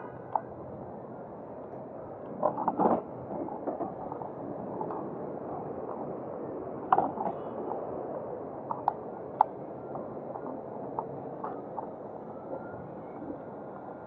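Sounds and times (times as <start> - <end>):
city street background noise: 0.0 - 14.0.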